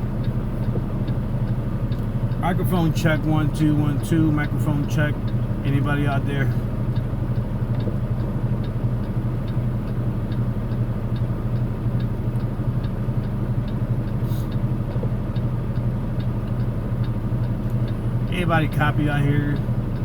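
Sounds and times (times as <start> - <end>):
truck engine running: 0.0 - 20.0
faint light ticks: 0.2 - 18.9, 19.5 - 20.0.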